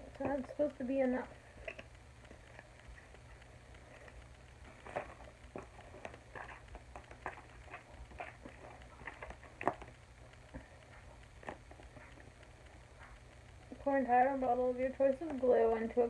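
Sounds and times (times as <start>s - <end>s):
soft squishes of slime: 0.0s - 16.0s.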